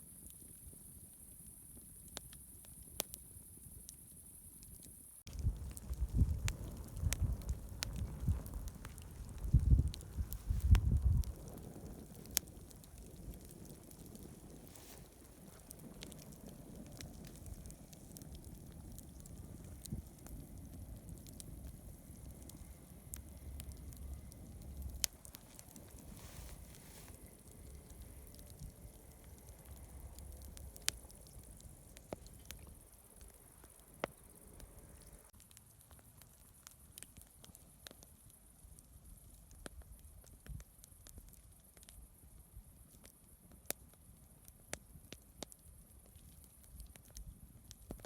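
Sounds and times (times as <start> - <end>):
campfire crackling and popping: 0.1 - 48.0.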